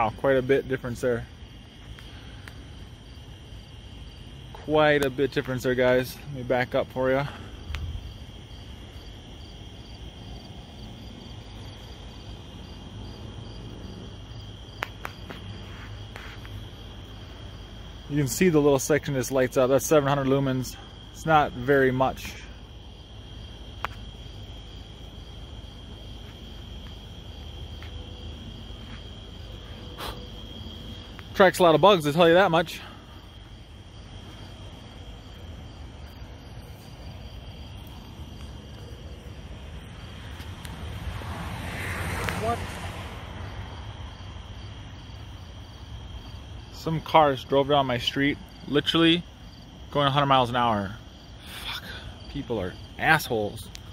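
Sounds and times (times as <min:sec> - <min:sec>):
crickets chirping: 0:00.0 - 0:53.9.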